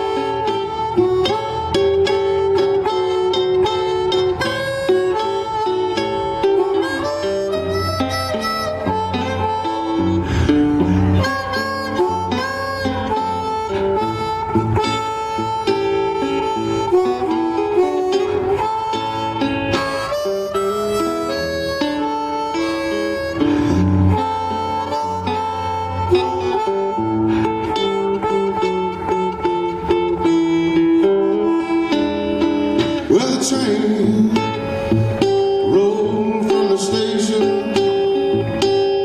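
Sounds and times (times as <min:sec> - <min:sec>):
blues harmonica: 0:00.0 - 0:39.0
plucked resonator guitar: 0:00.0 - 0:39.0.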